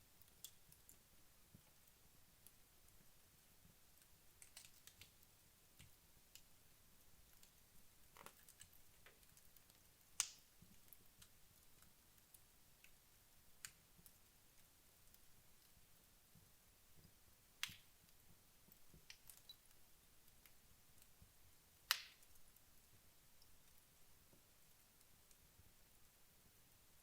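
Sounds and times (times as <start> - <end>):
wood fire crackling and popping: 0.1 - 27.0.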